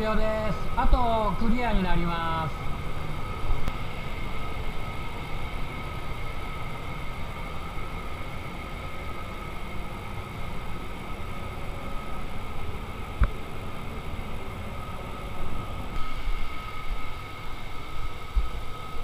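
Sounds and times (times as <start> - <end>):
faint steady tones: 0.0 - 19.0
ventilation hum and rush: 0.0 - 19.0.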